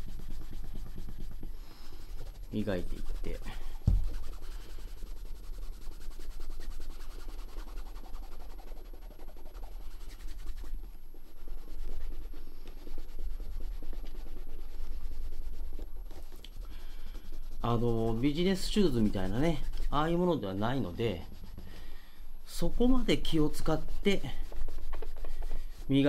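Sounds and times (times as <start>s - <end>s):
cloth rubbing on leather boot: 0.0s - 21.9s, 22.5s - 26.0s.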